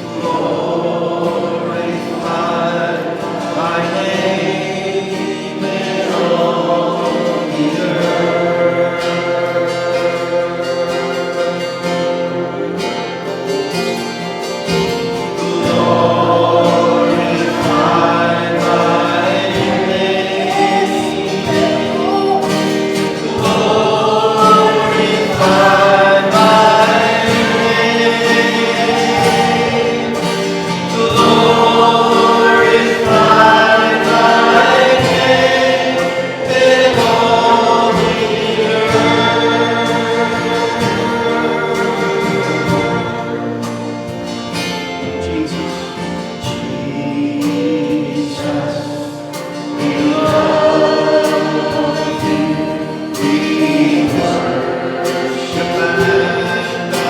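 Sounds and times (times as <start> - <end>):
choir singing: 0.0 - 57.0
instrumental accompaniment: 0.0 - 57.0.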